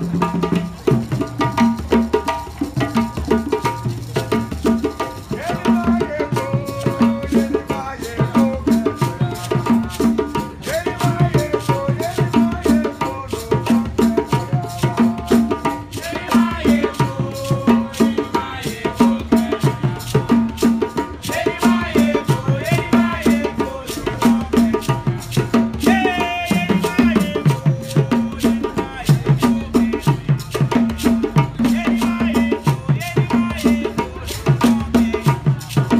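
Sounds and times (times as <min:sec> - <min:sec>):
hand drums playing fast rhythm: 0:00.0 - 0:35.9
voices singing: 0:05.0 - 0:35.9.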